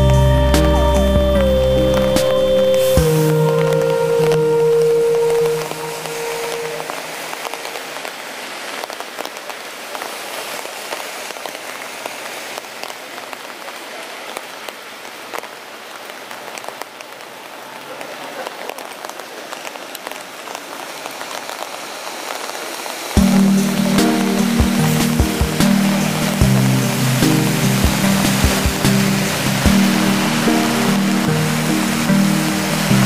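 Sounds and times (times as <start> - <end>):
rain on wet pavement: 0.0 - 33.0.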